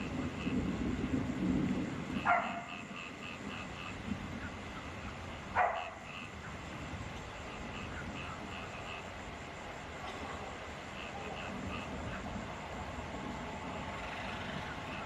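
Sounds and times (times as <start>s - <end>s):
frogs calling in pulses: 0.0s - 15.0s
rain hiss: 0.0s - 15.0s.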